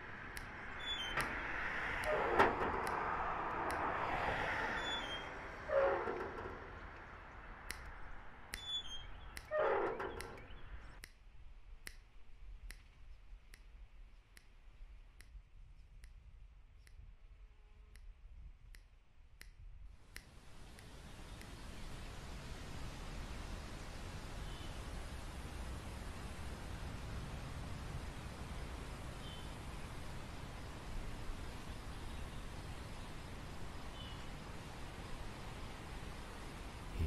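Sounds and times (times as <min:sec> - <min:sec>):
outdoor noise: 0:00.0 - 0:37.0.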